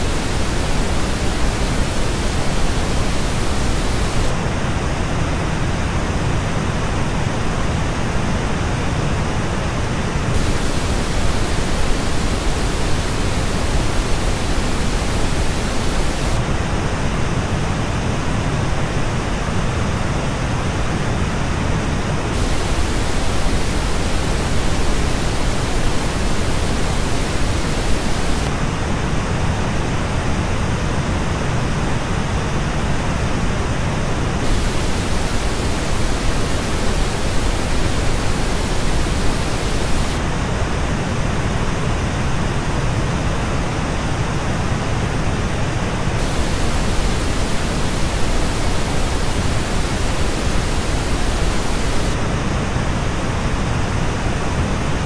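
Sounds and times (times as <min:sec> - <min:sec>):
pink noise test signal: 0:00.0 - 0:55.0.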